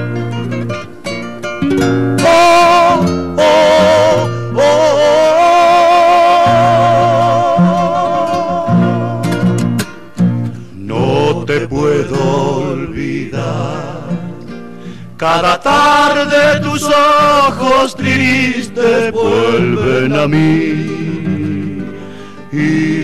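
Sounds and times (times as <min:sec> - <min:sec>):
strummed acoustic guitars: 0:00.0 - 0:23.0
male vocal group singing in harmony: 0:02.2 - 0:09.5, 0:10.8 - 0:14.4, 0:15.2 - 0:23.0.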